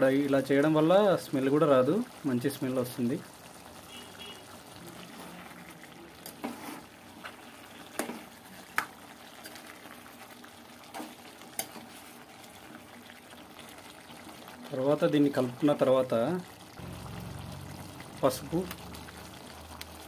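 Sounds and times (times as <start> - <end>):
curry simmering: 0.0 - 20.0.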